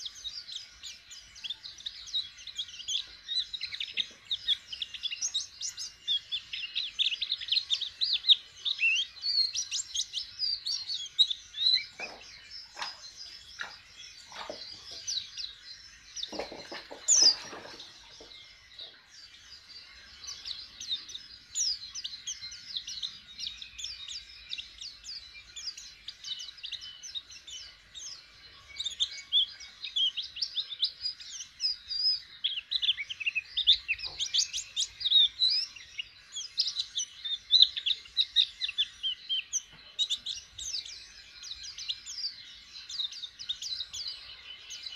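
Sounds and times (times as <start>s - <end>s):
bird twittering in high chirps: 0.0s - 44.9s.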